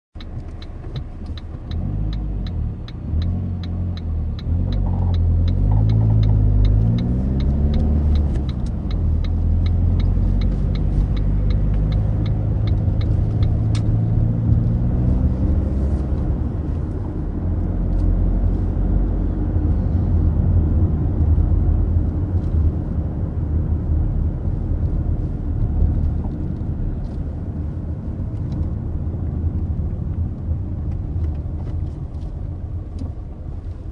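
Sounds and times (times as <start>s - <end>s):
turn signal ticking: 0.2s - 19.8s, 20.4s - 33.9s
car engine from inside cabin: 0.2s - 33.9s.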